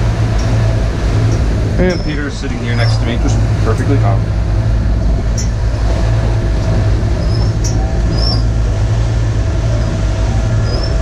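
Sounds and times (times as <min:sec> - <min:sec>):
boat low rumble and drone: 0:00.0 - 0:11.0.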